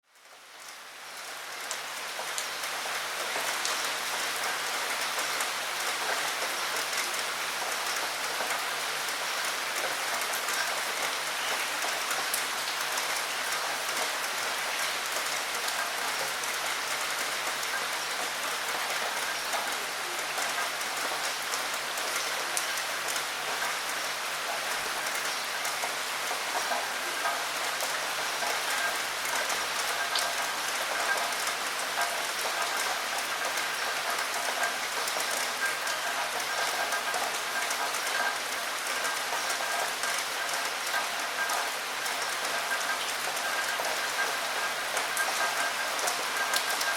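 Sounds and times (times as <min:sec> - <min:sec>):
rain falling against a window: 0:00.0 - 0:46.9.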